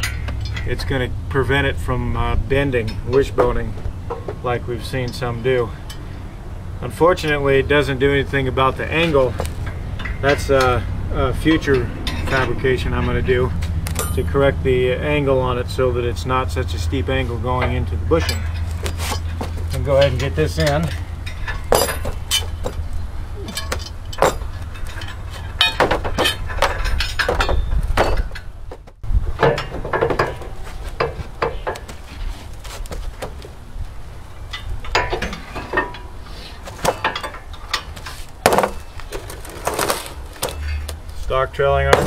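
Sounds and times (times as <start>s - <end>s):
metal clanks and knocks: 0.0s - 1.7s, 2.5s - 6.2s, 8.5s - 15.3s, 17.0s - 42.0s.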